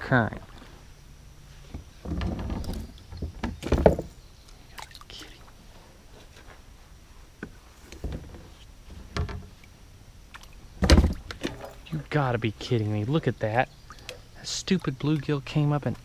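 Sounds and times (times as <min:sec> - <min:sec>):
quiet water sounds: 0:00.0 - 0:16.0.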